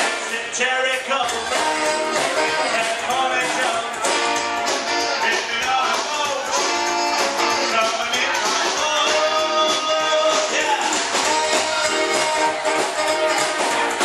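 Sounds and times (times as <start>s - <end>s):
rock and roll band playing: 0.0s - 14.0s.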